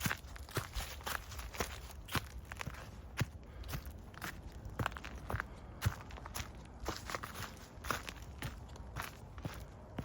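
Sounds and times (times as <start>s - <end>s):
footsteps on forest path: 0.0s - 10.0s.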